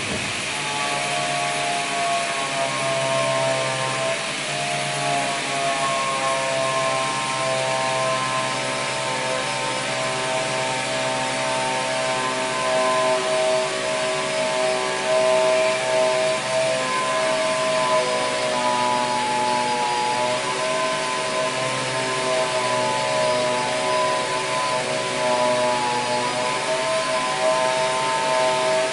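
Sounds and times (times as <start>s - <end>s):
workshop machinery hissing and whining: 0.0s - 28.9s.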